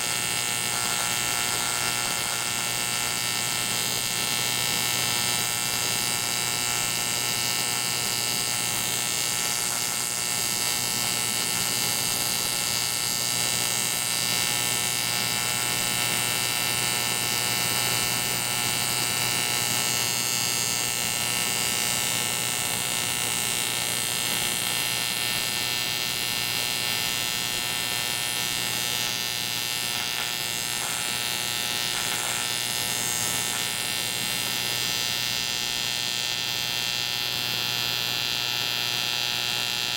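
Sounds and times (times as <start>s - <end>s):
welding arc buzzing: 0.0s - 39.9s.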